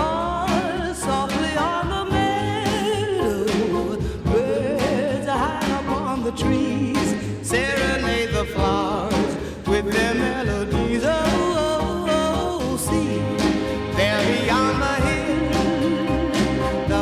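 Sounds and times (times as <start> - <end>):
song with band accompaniment: 0.0 - 17.0.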